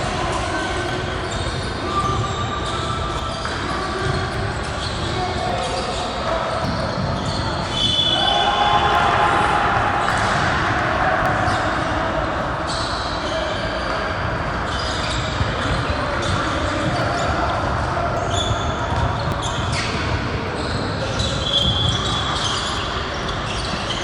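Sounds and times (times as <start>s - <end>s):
basketball bouncing on court: 0.0s - 9.0s, 9.6s - 24.0s
shoes squeaking: 0.0s - 9.2s, 11.2s - 24.0s.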